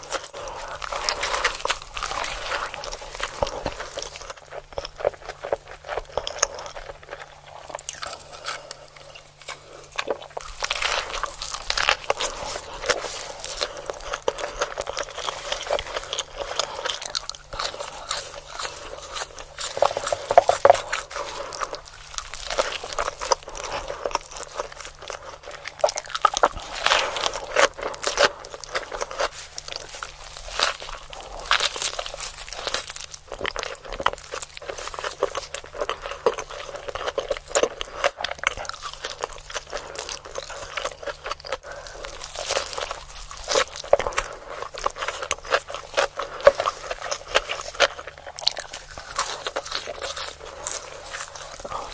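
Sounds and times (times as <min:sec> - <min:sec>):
crunchy chewing: 0:00.0 - 0:51.9.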